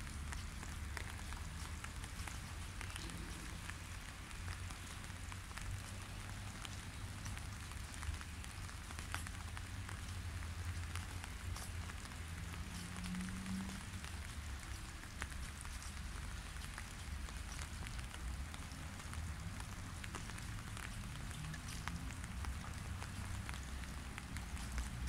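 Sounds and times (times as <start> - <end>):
rain drops plinking in puddle: 0.0 - 25.0.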